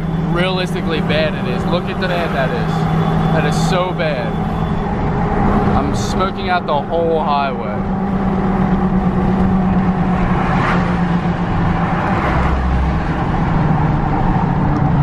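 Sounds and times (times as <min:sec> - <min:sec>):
diesel truck engine drone: 0:00.0 - 0:15.0
tyre and road noise: 0:00.0 - 0:15.0.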